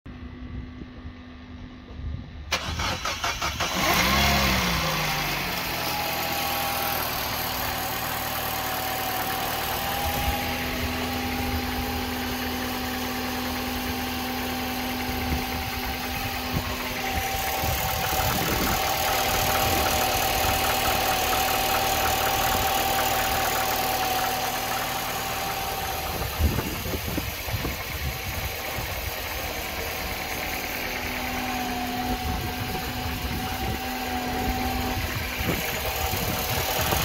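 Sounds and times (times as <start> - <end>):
car engine starting and idling: 2.3 - 37.0.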